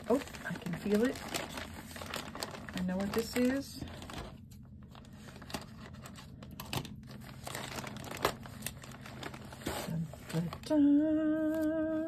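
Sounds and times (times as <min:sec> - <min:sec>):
plastic mailer bag crinkling: 0:00.0 - 0:10.8.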